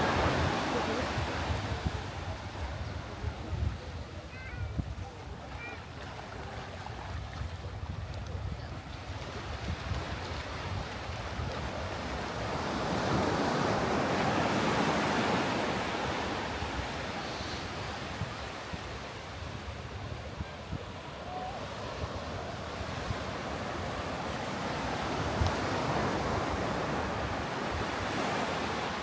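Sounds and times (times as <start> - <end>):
ocean surf washing on beach: 0.0 - 4.0, 7.4 - 29.0.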